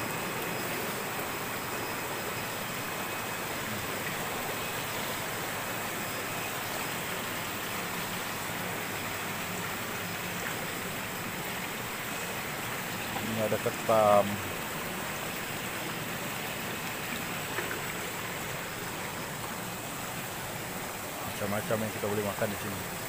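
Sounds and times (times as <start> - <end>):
circulating water splashing in tanks: 0.0 - 23.0.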